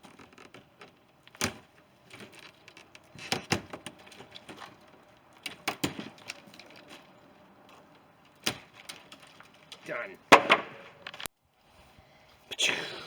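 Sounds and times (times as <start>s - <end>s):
packaging clicks and knocks: 0.0s - 11.3s.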